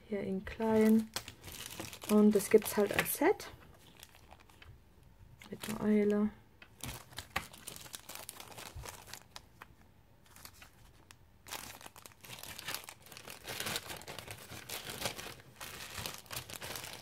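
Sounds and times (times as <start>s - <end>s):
plastic bag crinkling: 0.6s - 4.7s, 5.4s - 9.6s, 10.2s - 17.0s.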